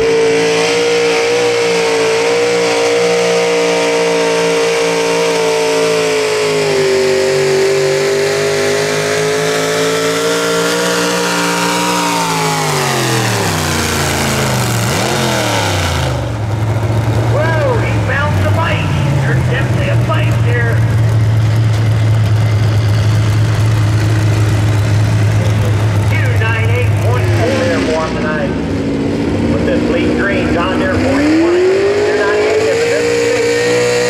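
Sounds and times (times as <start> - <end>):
engine at full throttle: 0.0 - 34.0.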